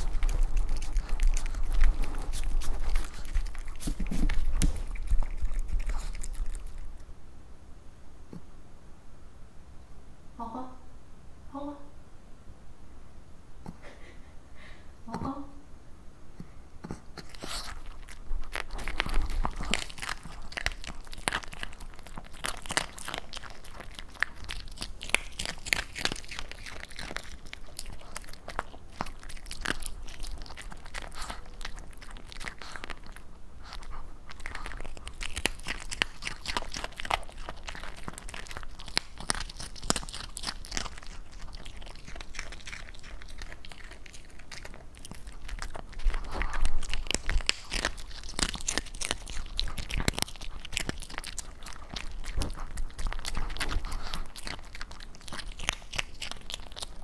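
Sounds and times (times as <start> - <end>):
dog crunching treats: 0.0 - 7.1, 16.9 - 57.0.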